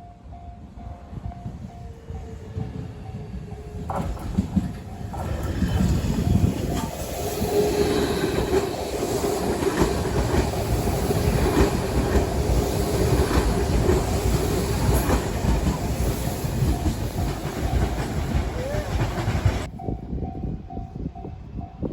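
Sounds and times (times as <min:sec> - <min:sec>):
train rumble: 0:00.0 - 0:21.9
train wheels clacking on rail joints: 0:01.2 - 0:19.7.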